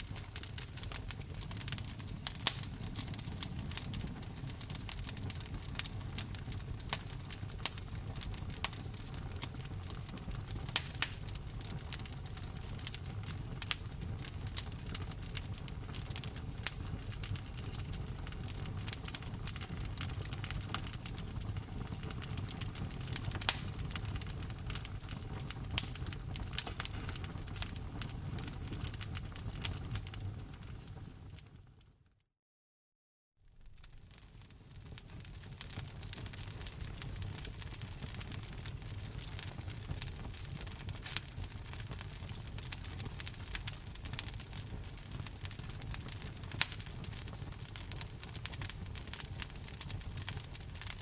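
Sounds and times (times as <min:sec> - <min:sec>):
low rumble of burning logs: 0:00.0 - 0:31.8, 0:33.5 - 0:51.0
wood fire crackling and popping: 0:00.0 - 0:31.8, 0:33.6 - 0:51.0.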